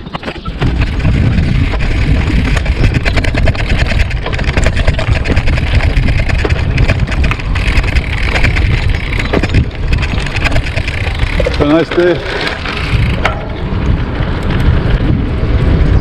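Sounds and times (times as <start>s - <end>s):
tyres rolling on rough surface: 0.0s - 16.0s
wind buffeting microphone: 0.0s - 16.0s.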